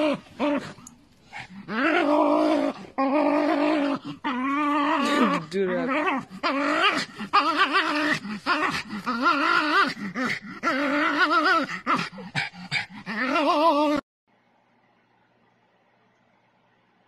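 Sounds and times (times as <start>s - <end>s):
dog whining: 0.0s - 14.0s.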